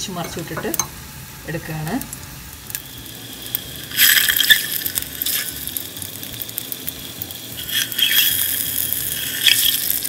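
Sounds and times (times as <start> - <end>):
oil sizzling and crackling: 0.0 - 10.0.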